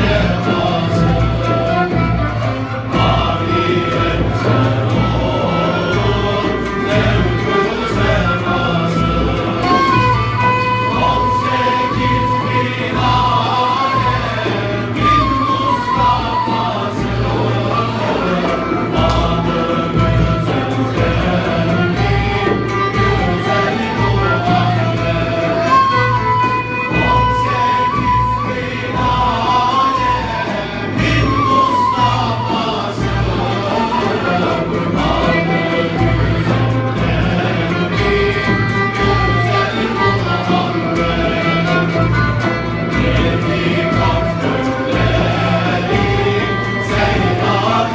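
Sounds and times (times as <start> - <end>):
frame drum beating: 0.0 - 47.9
male choir singing: 0.0 - 47.9
traditional string and flute ensemble: 0.0 - 47.9
violin: 0.0 - 47.9.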